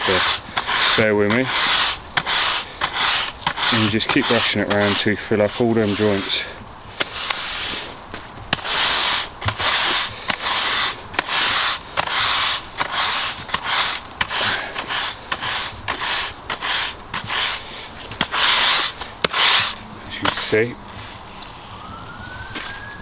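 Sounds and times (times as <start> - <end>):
brush sweeping sand over paving: 0.0 - 23.0.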